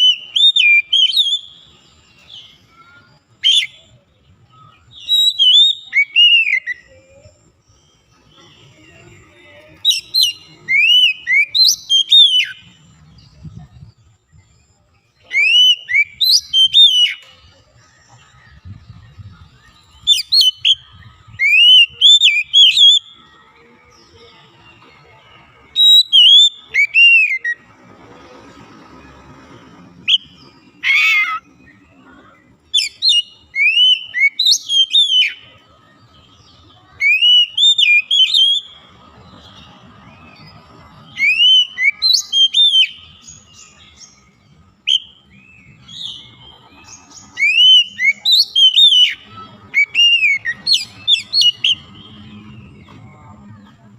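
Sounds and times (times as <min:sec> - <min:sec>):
bird whistling song: 0:00.0 - 0:14.6, 0:15.2 - 0:27.7, 0:29.7 - 0:53.1.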